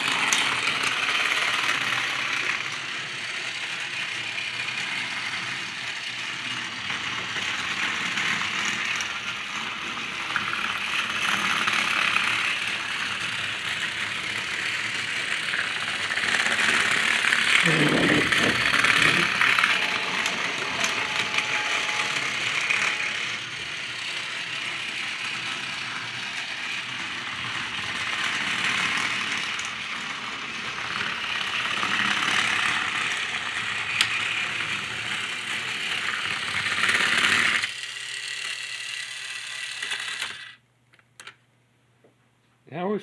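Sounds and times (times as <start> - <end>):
toy train motor and gears: 0.0 - 40.6.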